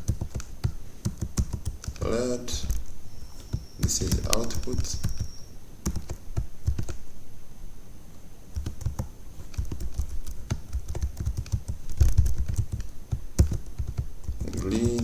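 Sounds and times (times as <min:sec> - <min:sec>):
typing on keyboard: 0:00.0 - 0:07.0, 0:08.6 - 0:15.0.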